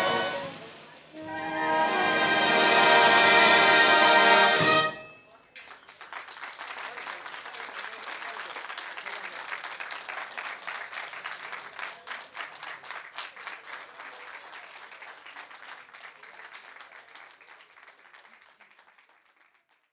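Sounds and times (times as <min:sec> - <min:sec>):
crowd applauding: 0:00.0 - 0:00.7, 0:01.3 - 0:19.9.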